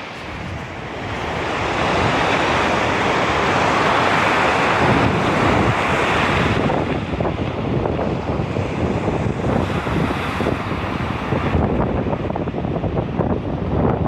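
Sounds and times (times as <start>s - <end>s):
sea surf breaking: 0.0s - 14.0s
wind buffeting microphone: 0.0s - 14.0s.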